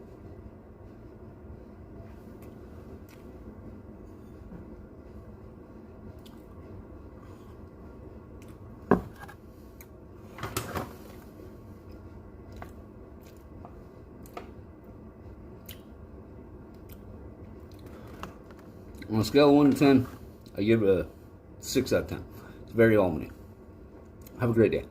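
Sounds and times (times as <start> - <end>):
low hum: 0.0 - 24.9.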